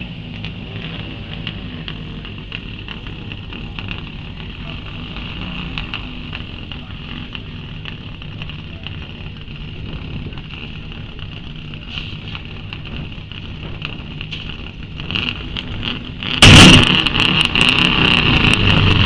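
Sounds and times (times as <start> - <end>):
sharp engine crackles: 0.0 - 19.0.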